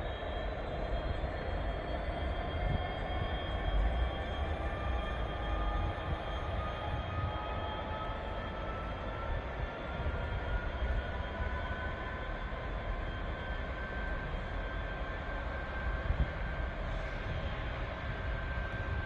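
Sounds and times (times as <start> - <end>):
rising locomotive whine: 0.0 - 19.0.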